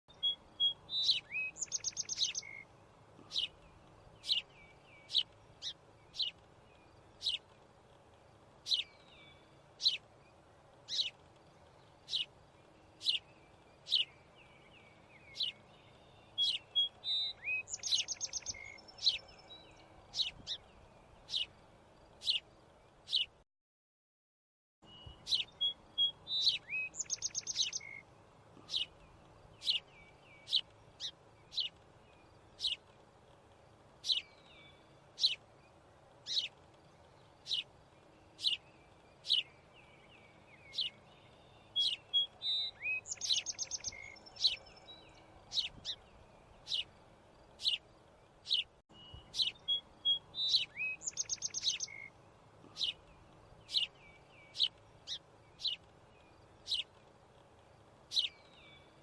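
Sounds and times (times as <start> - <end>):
birds chirping: 0.1 - 23.4, 24.8 - 59.0.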